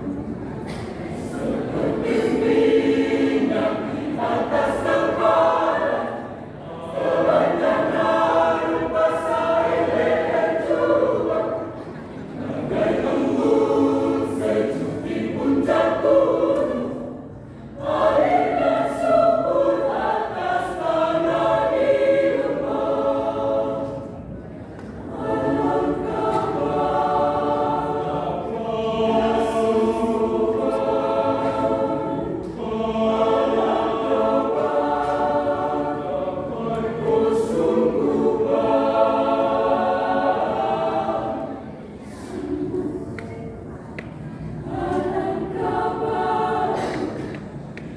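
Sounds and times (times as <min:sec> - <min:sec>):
choir singing: 0:00.0 - 0:47.9.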